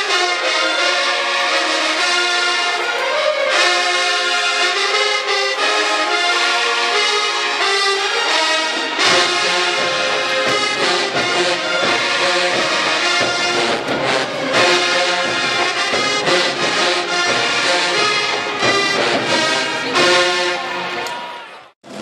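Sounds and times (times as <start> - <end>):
marching brass band playing: 0.0 - 22.0.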